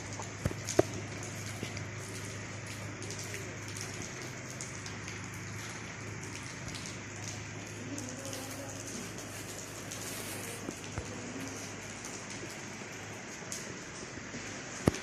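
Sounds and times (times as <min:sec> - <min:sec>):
rain patter: 0:00.0 - 0:15.0
water drips ticking: 0:00.0 - 0:15.0.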